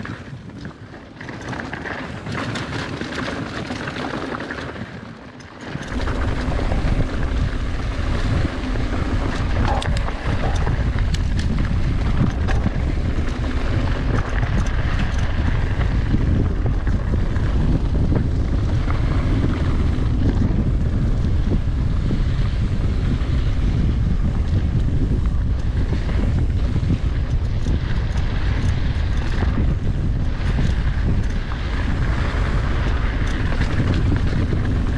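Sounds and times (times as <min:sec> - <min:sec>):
bike clicks and rattles: 0:00.0 - 0:34.9
wind rumble on microphone: 0:00.0 - 0:34.9.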